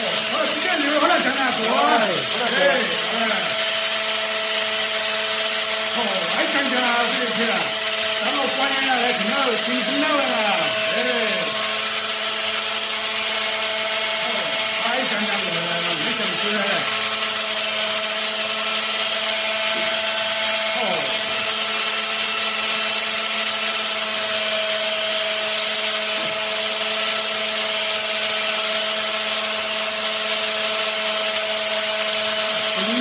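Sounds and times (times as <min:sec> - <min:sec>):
electric hair cutter running: 0:00.0 - 0:33.0.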